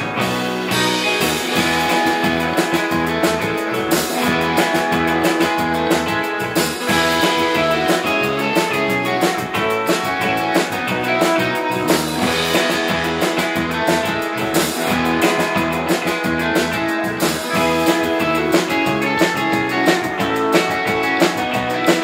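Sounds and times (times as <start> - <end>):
drum kit beat: 0.0 - 22.0
electric bass: 0.0 - 22.0
lead electric guitar melody: 0.0 - 22.0.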